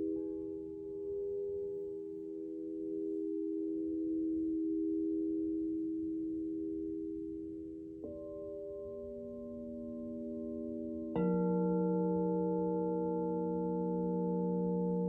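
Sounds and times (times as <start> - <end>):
singing bowls ringing: 0.0 - 5.5, 8.0 - 15.0.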